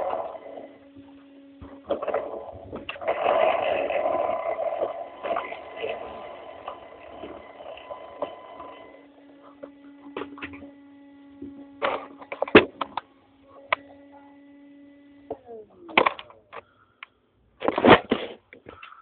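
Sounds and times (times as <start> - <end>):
electric motor whining: 0.0 - 16.6.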